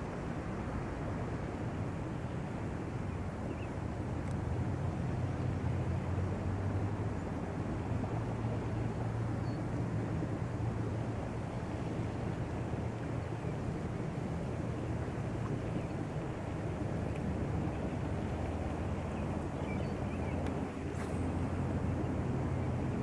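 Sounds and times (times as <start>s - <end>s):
low background rumble: 3.0s - 23.0s.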